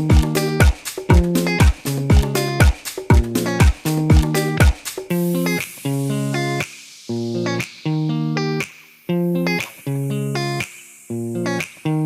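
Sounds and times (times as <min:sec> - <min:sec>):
guitar plucked chords: 0:00.0 - 0:12.0.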